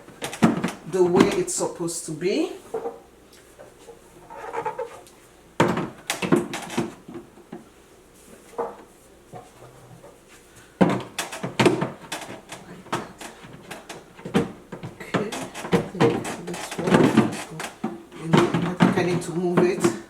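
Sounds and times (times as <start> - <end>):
items clinking on fridge shelves: 0.0 - 1.8, 2.4 - 7.7, 8.4 - 20.0.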